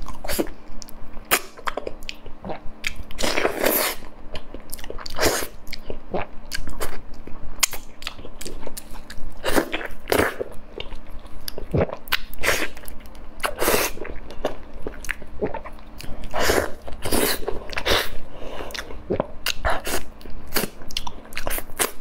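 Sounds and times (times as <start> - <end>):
person chewing with wet smacks: 0.0 - 22.0.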